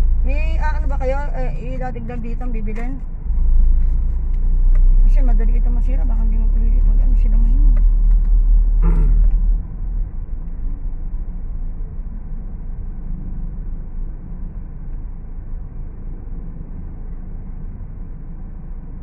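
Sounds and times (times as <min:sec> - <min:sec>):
road vehicle rumbling: 0:00.0 - 0:19.0.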